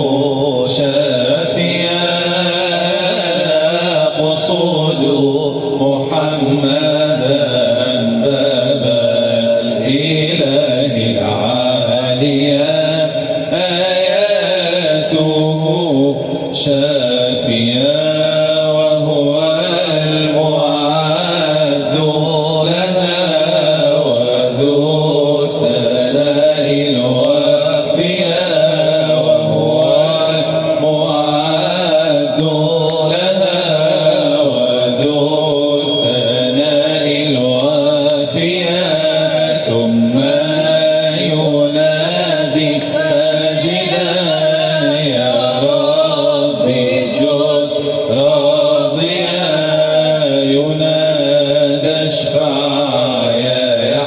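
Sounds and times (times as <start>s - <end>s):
held vocal drone: 0.0s - 54.0s
man singing melody: 0.0s - 54.0s.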